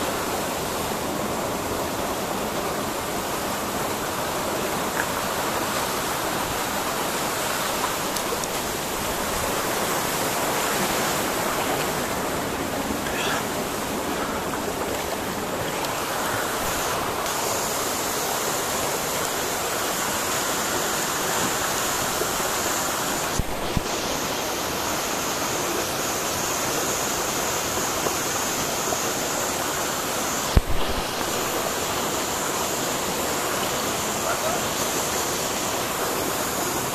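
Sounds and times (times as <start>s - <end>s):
waterfall splashing into pool: 0.0s - 36.9s.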